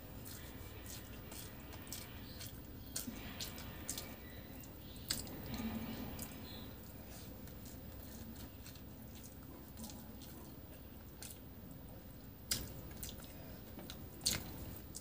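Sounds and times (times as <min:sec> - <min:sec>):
chewing rice: 0:00.0 - 0:15.0
fingers squishing rice: 0:00.0 - 0:15.0.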